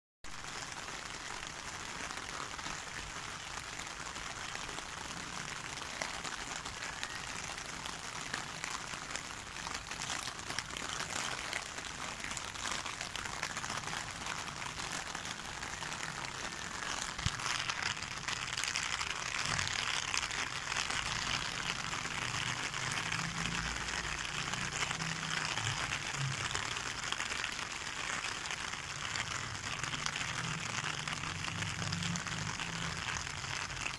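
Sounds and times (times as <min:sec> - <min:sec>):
rain falling on concrete: 0:00.2 - 0:33.9.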